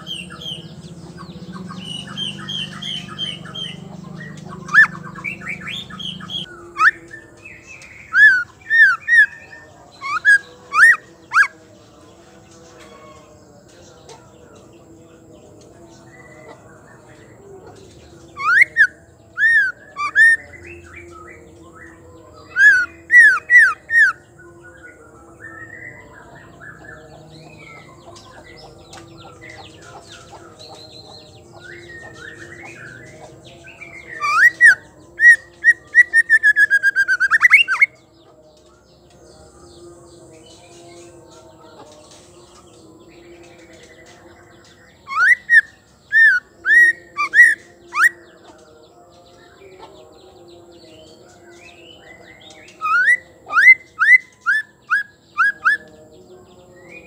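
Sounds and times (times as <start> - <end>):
faint bird chirping: 0.0 - 57.0.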